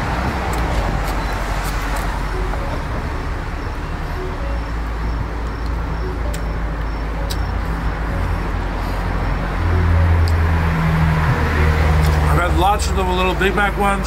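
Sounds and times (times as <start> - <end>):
road traffic noise: 0.0 - 14.0
vehicle engine hum: 0.0 - 14.0.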